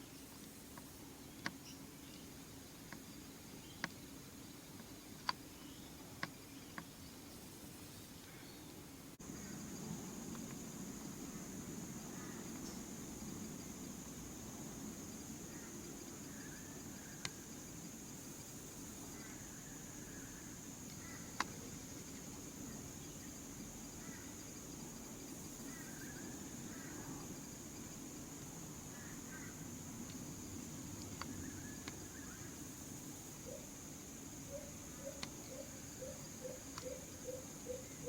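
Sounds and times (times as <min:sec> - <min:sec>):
faint insect chirps: 0:00.0 - 0:38.0.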